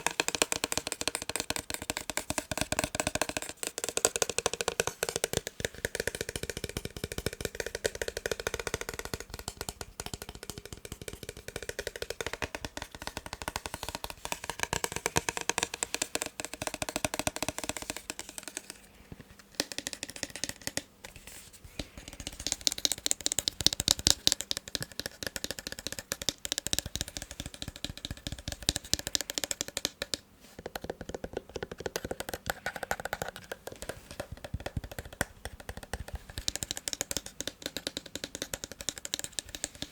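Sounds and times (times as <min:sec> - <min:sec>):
fast tapping on plastic casing: 0:00.0 - 0:18.8, 0:19.5 - 0:20.9, 0:21.8 - 0:39.9.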